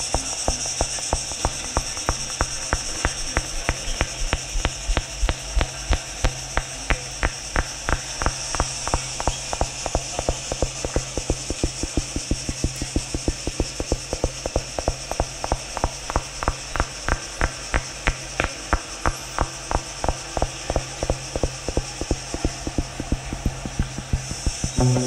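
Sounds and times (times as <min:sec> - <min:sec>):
high hiss: 0:00.0 - 0:25.0
low hum: 0:00.0 - 0:25.0
rapid even clicking: 0:00.0 - 0:25.0.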